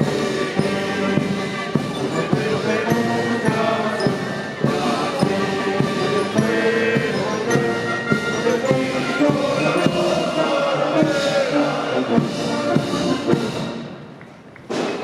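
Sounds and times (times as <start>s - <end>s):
held brass notes: 0.0s - 14.1s
steady drum beat: 0.0s - 14.2s.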